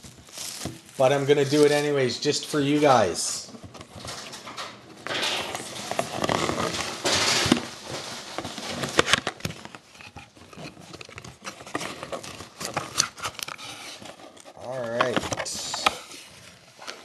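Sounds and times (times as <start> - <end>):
cardboard and card packs rustling: 0.0 - 17.0.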